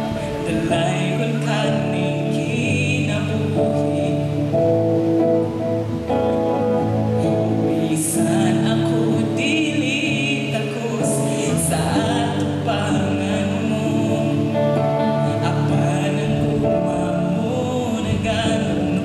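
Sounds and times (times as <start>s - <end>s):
woman singing: 0.0s - 4.5s, 7.2s - 19.0s
electric guitar strummed chords: 0.0s - 19.0s.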